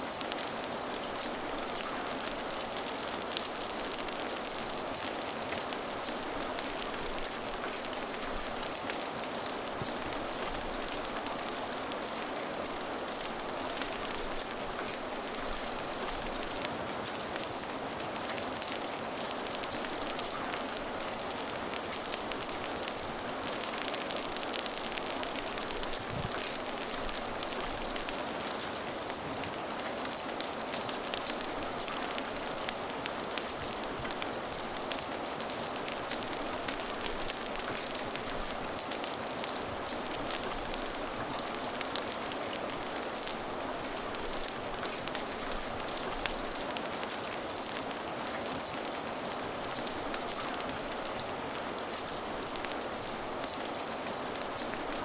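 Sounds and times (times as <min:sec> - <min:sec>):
steady rain: 0:00.0 - 0:55.0
fire crackling: 0:00.1 - 0:55.0.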